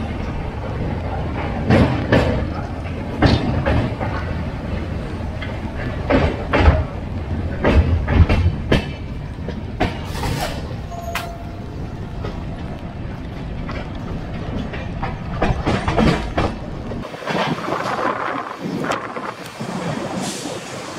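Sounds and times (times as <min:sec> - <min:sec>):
train coach rumbling: 0:00.0 - 0:20.9
wheels clacking over rail joints: 0:00.0 - 0:20.9.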